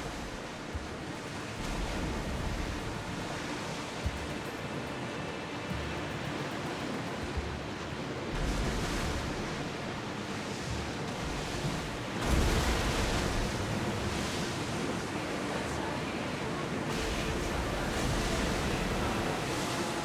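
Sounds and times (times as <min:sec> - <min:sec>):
sea waves washing: 0:00.0 - 0:20.0
water surging: 0:00.0 - 0:20.0.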